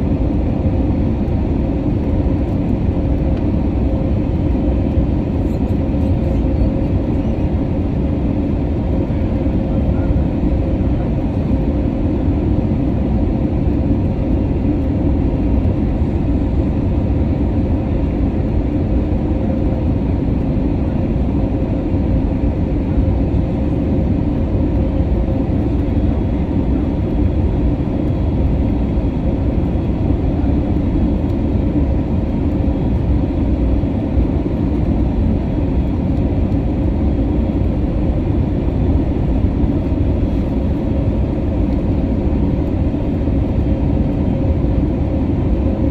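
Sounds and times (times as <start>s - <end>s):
airplane cabin engine rumble: 0.0s - 45.9s.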